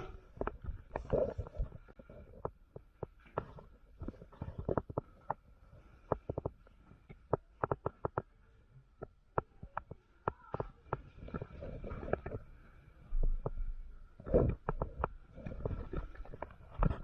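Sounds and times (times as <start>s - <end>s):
movement rumble on microphone: 0.0s - 17.0s.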